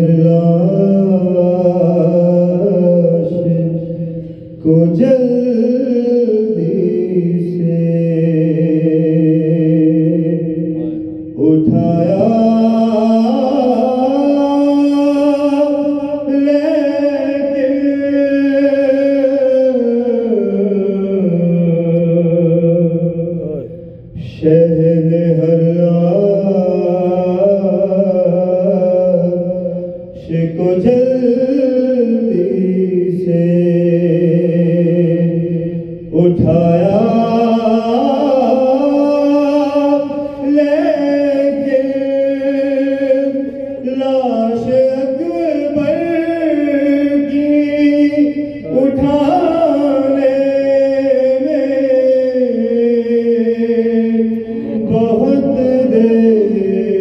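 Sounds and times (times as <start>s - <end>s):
man chanting a lament: 0.0s - 57.0s.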